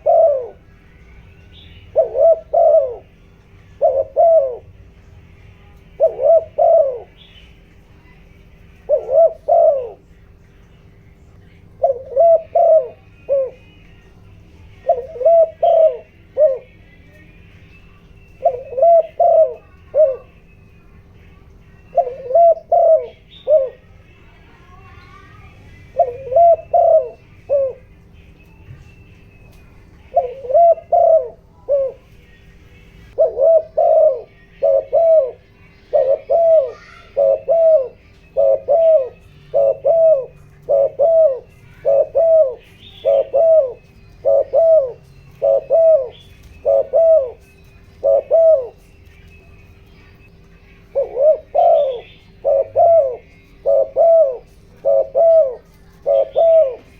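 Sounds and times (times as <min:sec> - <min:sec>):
dove cooing: 0:00.0 - 0:56.9
small birds chirping: 0:00.0 - 0:56.9
steady low hum: 0:00.0 - 0:56.9.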